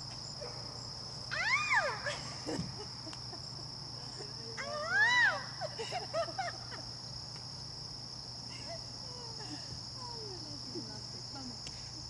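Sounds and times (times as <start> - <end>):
crickets chirping chorus: 0.0 - 12.0.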